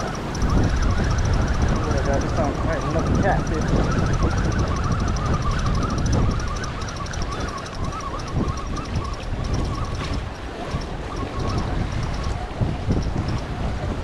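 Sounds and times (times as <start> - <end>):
thin wavering tone: 0.0 - 13.8
wind buffeting microphone: 0.0 - 14.0.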